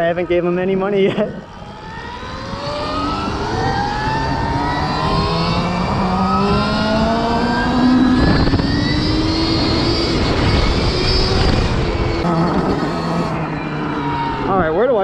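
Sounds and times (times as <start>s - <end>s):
wind and road noise: 0.0s - 15.0s
electric motor whining: 1.5s - 14.6s.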